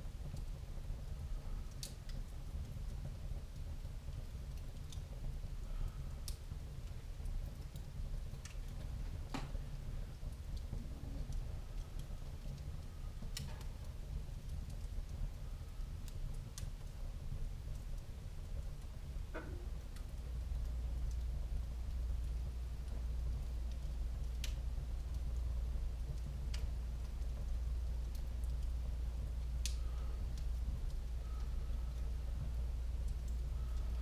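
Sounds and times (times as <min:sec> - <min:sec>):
fireplace fire crackling: 0:00.0 - 0:34.0.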